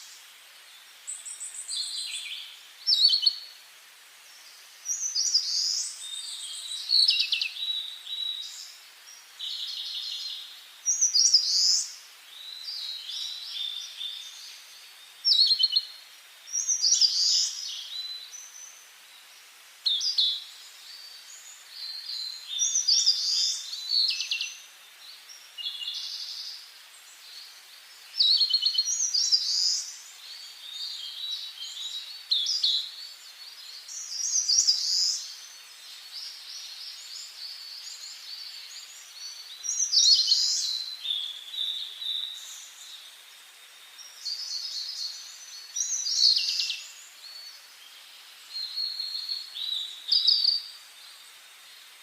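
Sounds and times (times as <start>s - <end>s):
faint forest ambience hiss: 0.0s - 52.0s
songbirds singing: 0.0s - 52.0s.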